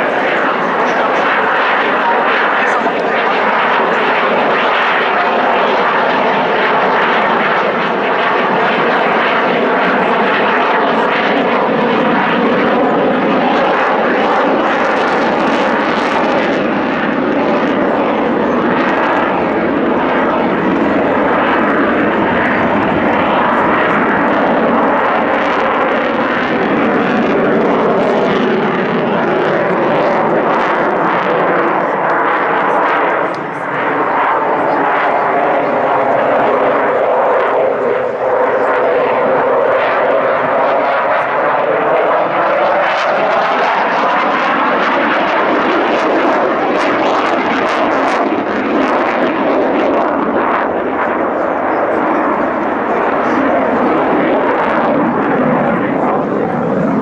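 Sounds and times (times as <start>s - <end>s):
aircraft engine: 0.0s - 57.0s.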